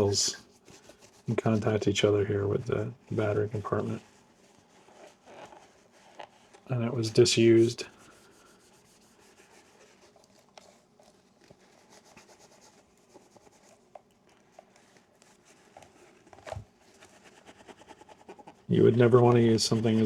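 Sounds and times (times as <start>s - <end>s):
paper towel rubbing: 0.0s - 20.0s.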